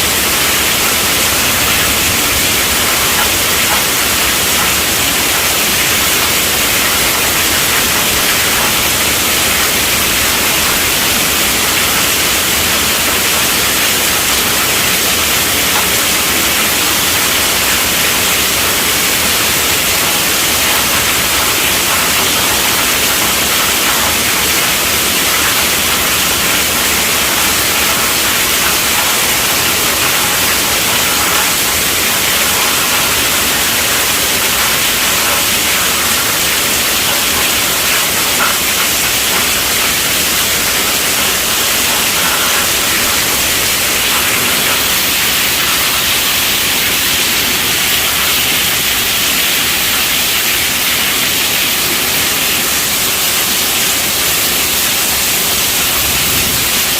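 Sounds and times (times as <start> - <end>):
heavy rainfall hiss: 0.0 - 56.9.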